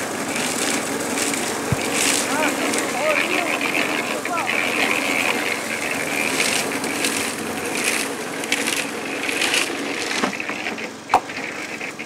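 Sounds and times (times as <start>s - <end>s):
gravel rattling and scraping: 0.0s - 12.0s.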